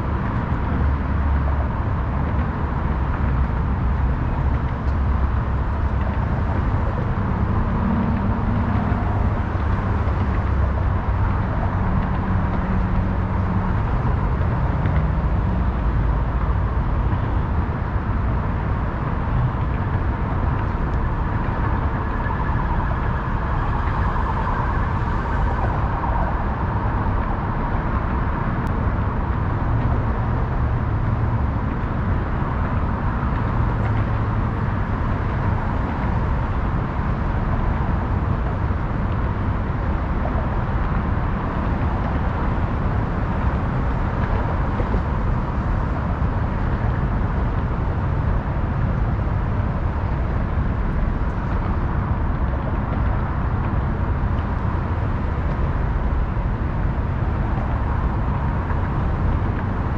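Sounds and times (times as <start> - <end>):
city road traffic: 0.0 - 59.9.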